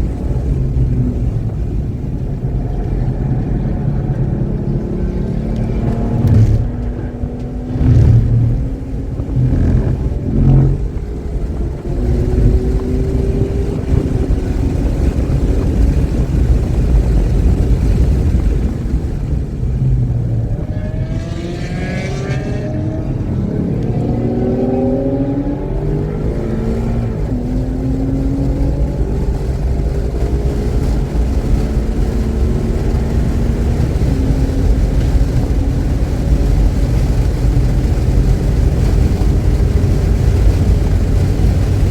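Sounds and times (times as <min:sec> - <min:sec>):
race car engine accelerating: 0:00.0 - 0:41.9
wind and road rumble: 0:00.0 - 0:41.9.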